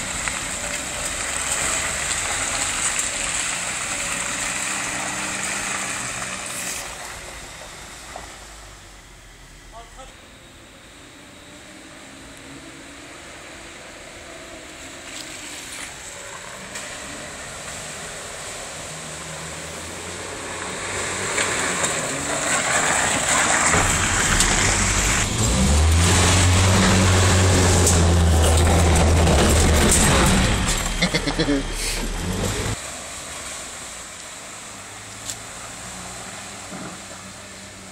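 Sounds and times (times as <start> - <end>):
off-road vehicle engine running: 0.0 - 32.8
tyre and ground noise: 0.0 - 37.9.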